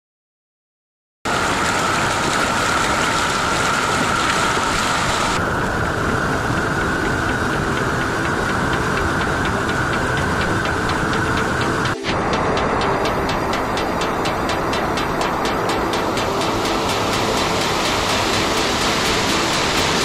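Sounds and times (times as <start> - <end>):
rushing mountain stream: 1.3 - 20.0.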